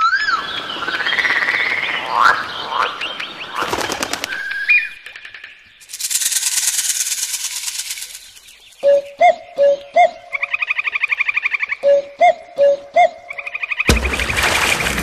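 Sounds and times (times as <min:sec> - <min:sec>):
birds calling with whistled notes: 0:00.0 - 0:13.9.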